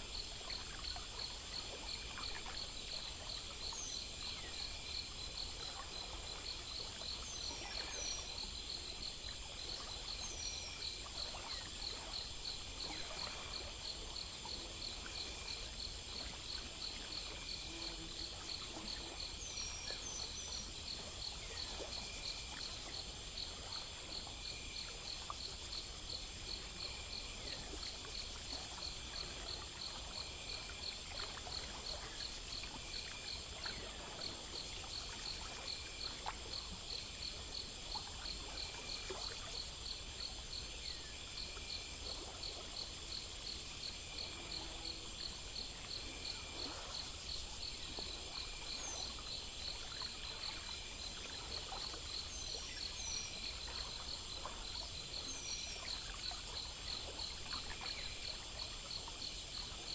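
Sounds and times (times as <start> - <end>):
crickets and insects chorus: 0.0 - 59.9
rapid pulsing insect chirp: 0.0 - 59.9.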